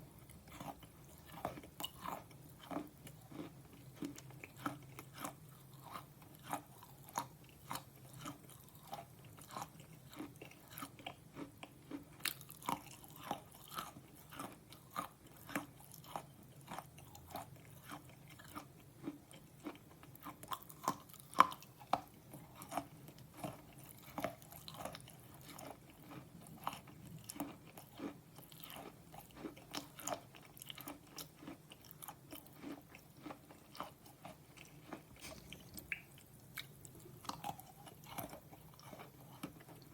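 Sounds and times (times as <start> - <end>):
brittle crunches of chewing: 0.1 - 39.9.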